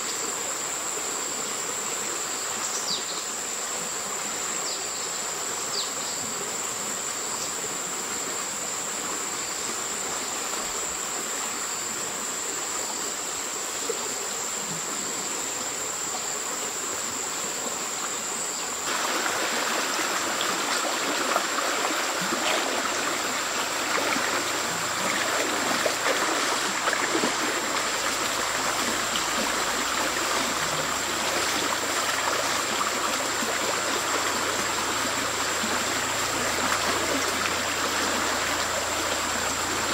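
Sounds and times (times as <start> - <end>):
high-pitched insect drone: 0.0 - 39.9
water running in a stream: 0.0 - 39.9.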